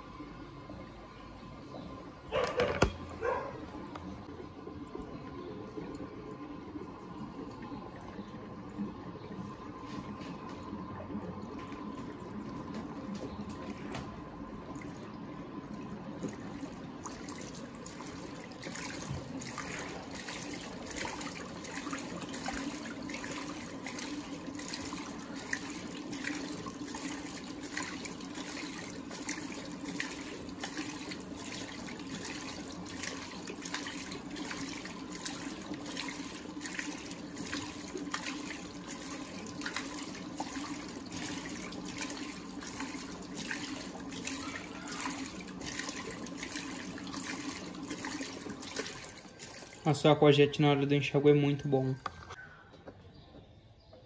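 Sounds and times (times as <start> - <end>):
washing machine low hum: 0.0 - 54.0
water splashing and pouring: 4.2 - 51.1.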